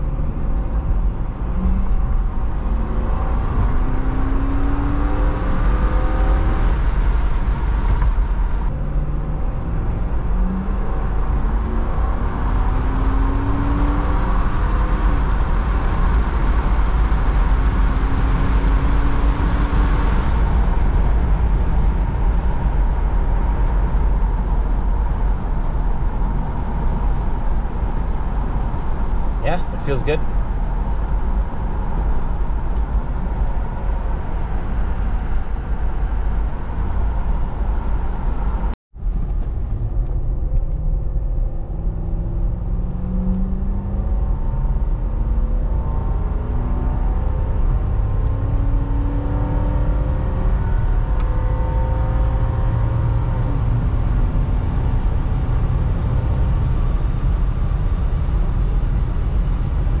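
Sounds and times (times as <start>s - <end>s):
road and wind noise: 0.0s - 60.0s.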